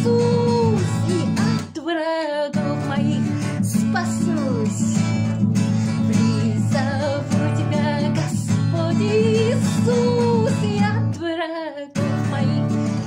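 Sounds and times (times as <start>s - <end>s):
strummed acoustic guitar: 0.0s - 1.9s, 2.5s - 11.4s, 12.0s - 13.0s
person singing: 0.0s - 13.0s.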